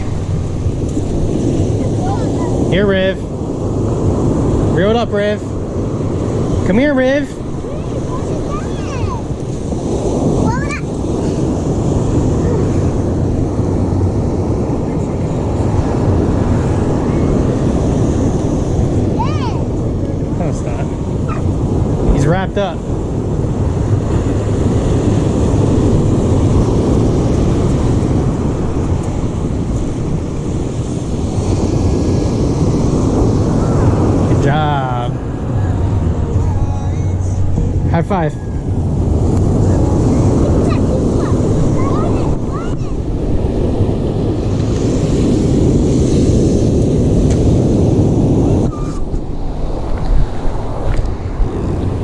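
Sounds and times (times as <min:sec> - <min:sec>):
surf washing: 0:00.0 - 0:52.0
waves breaking: 0:00.0 - 0:52.0
wind buffeting microphone: 0:00.0 - 0:52.0.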